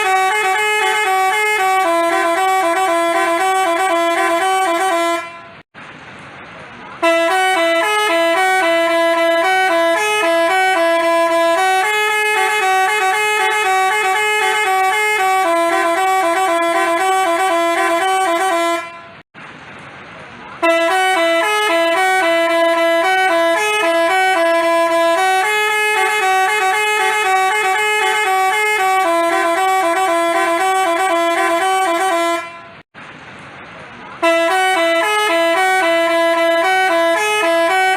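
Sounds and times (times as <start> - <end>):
bus horn playing melody: 0.0 - 5.7, 7.0 - 19.3, 20.6 - 32.9, 34.2 - 37.9.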